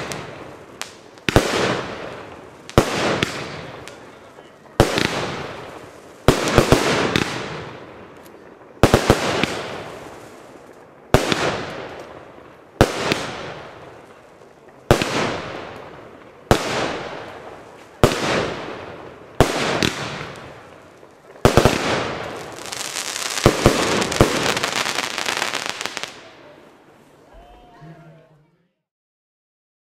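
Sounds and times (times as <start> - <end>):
fireworks bangs: 0.0 - 28.2
fireworks crackling: 0.0 - 28.5.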